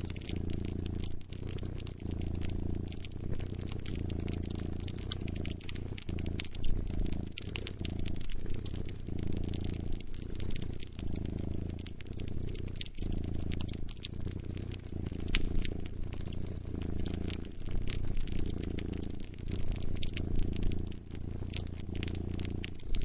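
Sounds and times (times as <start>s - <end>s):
cat purring: 0.0s - 23.0s
wood fire crackling: 0.0s - 23.0s.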